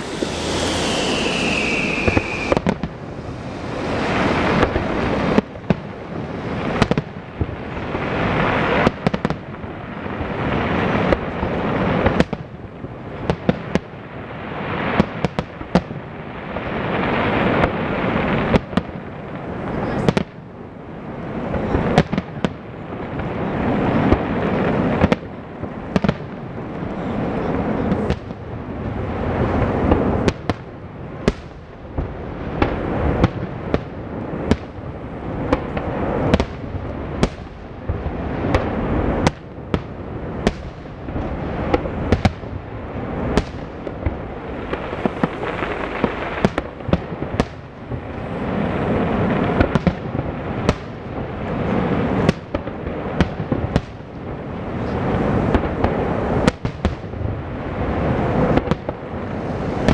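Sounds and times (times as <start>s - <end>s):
firework bursts and bangs: 0.0s - 59.9s
fireworks rumble: 0.0s - 59.9s.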